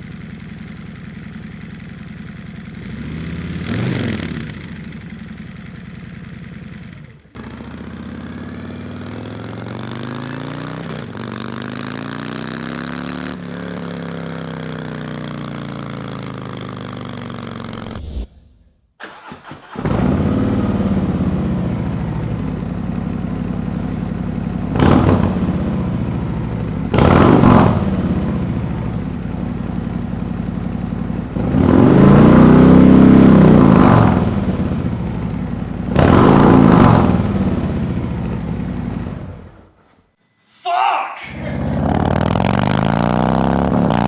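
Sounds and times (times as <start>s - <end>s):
motorcycle engine idling and revving: 0.0s - 39.8s, 41.3s - 44.0s.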